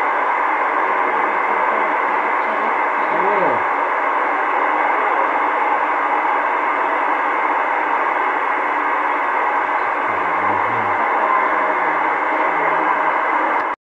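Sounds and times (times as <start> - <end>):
radio static hiss: 0.0 - 13.8.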